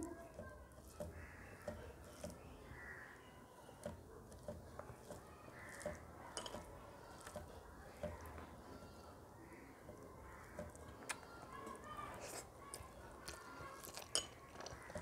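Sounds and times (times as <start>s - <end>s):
fingers mixing rice on steel plate: 0.0s - 15.0s.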